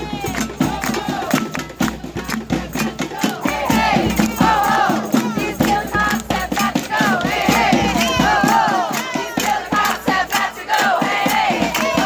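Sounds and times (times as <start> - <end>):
crowd shouting and chanting: 0.0 - 12.0
snare drums beaten with sticks: 0.0 - 12.0.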